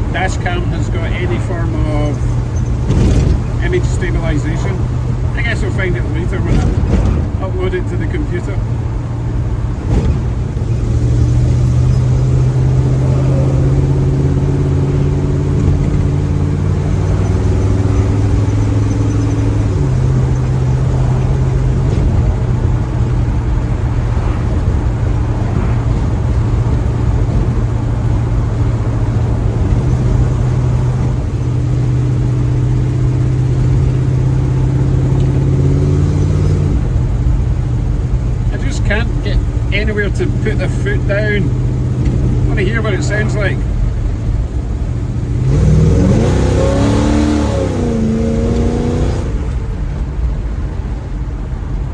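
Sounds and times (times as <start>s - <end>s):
car engine and exhaust cruising: 0.0s - 51.9s
road rumble: 0.0s - 51.9s.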